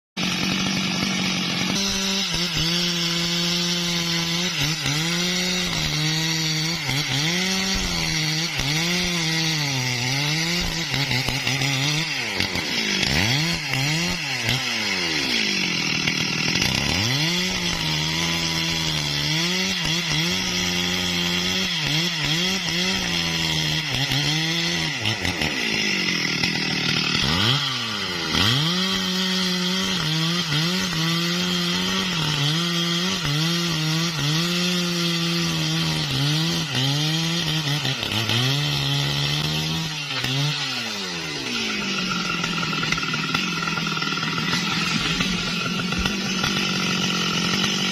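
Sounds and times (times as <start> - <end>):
chainsaw cutting through timber: 0.2 - 47.9.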